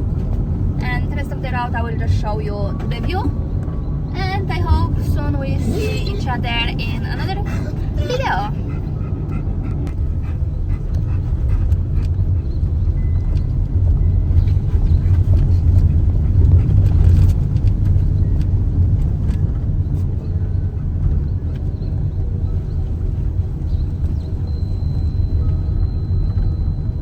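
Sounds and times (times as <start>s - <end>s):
vehicle cabin road rumble: 0.0s - 27.0s.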